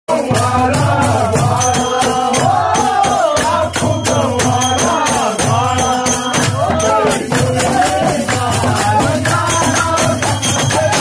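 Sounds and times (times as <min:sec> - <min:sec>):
percussion beat: 0:00.1 - 0:11.0
person singing devotional song: 0:00.1 - 0:11.0.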